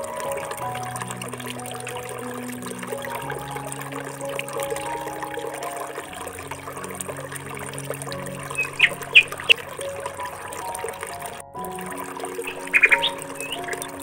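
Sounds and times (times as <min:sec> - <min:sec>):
soft background music: 0:00.0 - 0:14.0
water trickling: 0:00.0 - 0:14.0.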